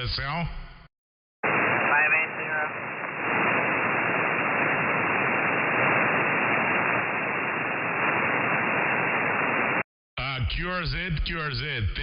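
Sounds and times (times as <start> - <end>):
radio static hiss: 1.4 - 12.0.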